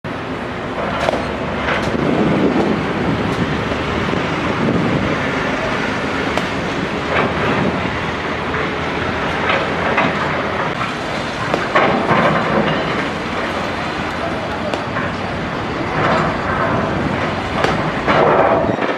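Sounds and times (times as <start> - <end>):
excavator rumble: 0.1 - 18.9.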